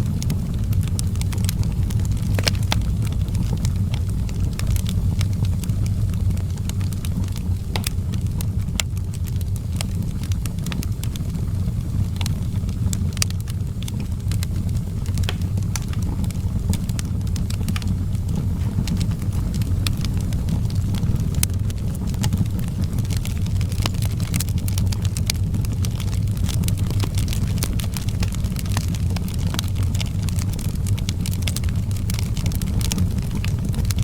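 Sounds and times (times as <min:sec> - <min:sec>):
low rumble of flame: 0:00.0 - 0:34.0
wood fire crackling and popping: 0:00.0 - 0:34.0.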